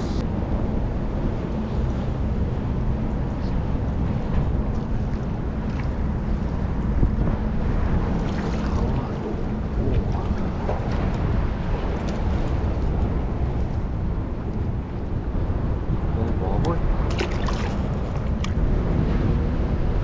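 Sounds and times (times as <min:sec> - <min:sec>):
faint water sounds: 0:00.0 - 0:20.0
wind buffeting microphone: 0:00.0 - 0:20.0.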